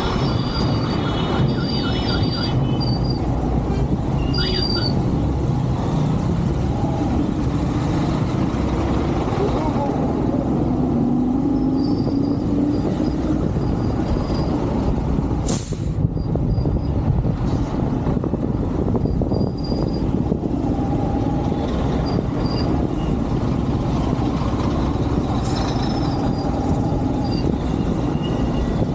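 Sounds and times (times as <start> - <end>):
wind and road noise: 0.0 - 28.9.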